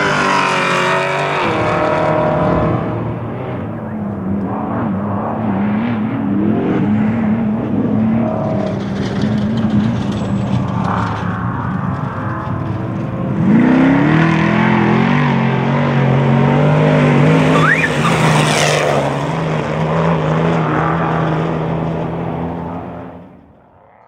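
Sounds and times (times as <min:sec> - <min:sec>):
truck engine revving: 0:00.0 - 0:23.8
tyre and dirt noise: 0:00.0 - 0:24.0.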